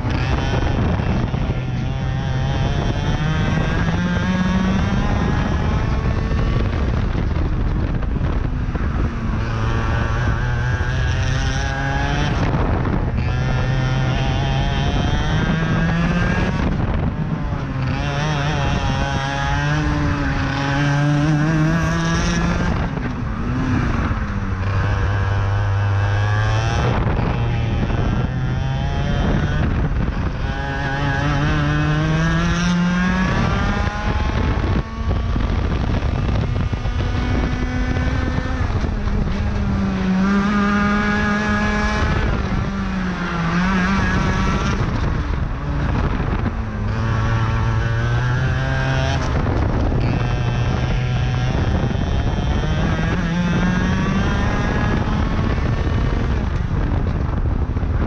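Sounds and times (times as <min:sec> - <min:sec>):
kart engine racing: 0:00.0 - 0:58.0.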